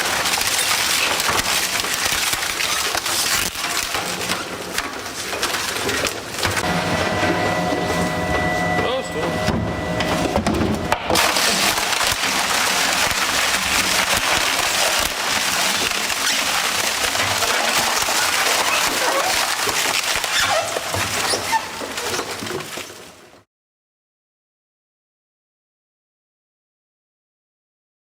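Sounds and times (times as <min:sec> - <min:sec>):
shredder splintering wood: 0:00.0 - 0:22.9.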